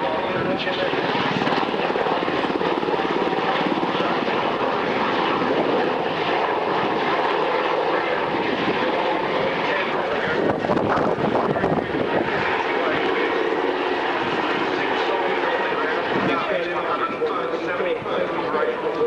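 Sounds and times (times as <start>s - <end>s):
aircraft engine pulsing: 0.0s - 19.0s.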